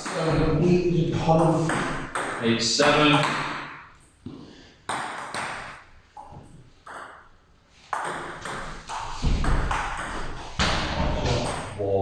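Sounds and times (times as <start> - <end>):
ping pong ball hitting bats and table: 0.0 - 12.0.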